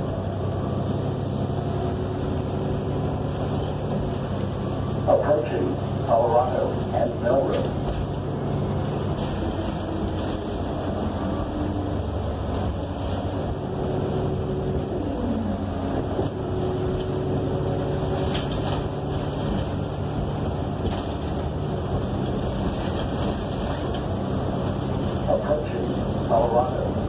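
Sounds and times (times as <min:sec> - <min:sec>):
bus engine running: 0:00.0 - 0:27.0
road and body noise: 0:00.0 - 0:27.0.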